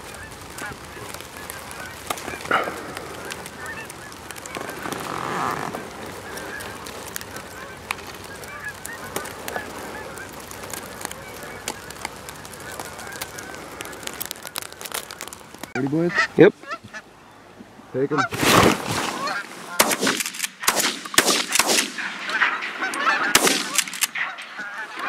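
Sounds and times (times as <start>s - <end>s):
geese honking: 0.0s - 17.2s, 18.0s - 18.4s, 19.0s - 20.0s, 21.9s - 25.0s.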